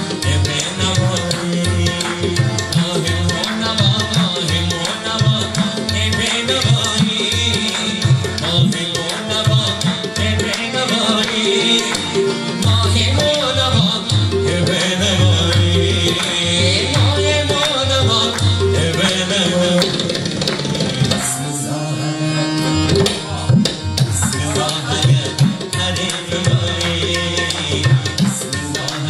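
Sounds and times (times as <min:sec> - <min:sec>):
tabla strokes: 0:00.0 - 0:21.4, 0:22.6 - 0:29.0
harmonium notes: 0:00.0 - 0:29.0.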